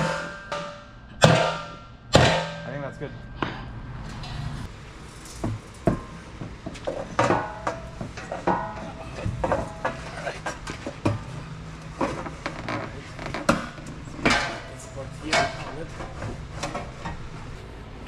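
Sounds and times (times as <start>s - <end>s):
metal parts and tools clanking: 0.0s - 17.6s.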